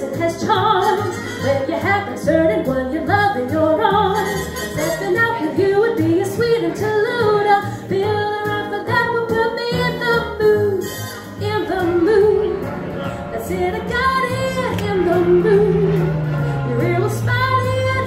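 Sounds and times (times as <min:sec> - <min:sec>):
backing music: 0:00.0 - 0:18.0
woman singing through speaker: 0:00.0 - 0:18.0.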